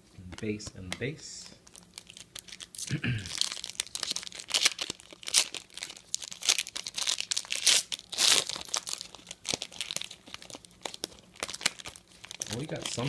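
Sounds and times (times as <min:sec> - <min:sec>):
card pack wrapper crinkling: 0:01.6 - 0:13.0.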